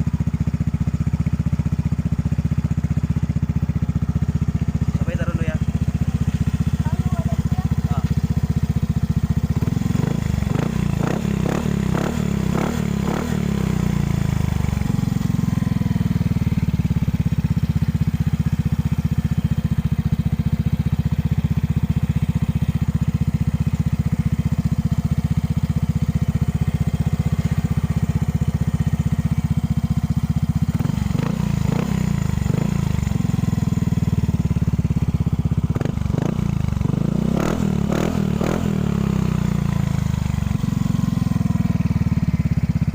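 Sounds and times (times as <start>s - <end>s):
scooter engine running: 0.0s - 42.9s.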